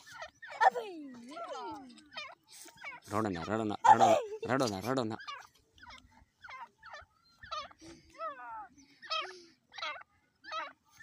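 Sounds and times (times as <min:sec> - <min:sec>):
francolin chirping calls: 0:00.0 - 0:11.0.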